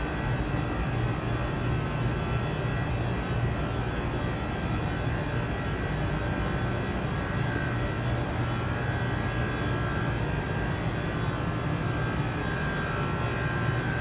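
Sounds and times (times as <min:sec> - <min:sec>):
factory machinery drone: 0:00.0 - 0:14.0.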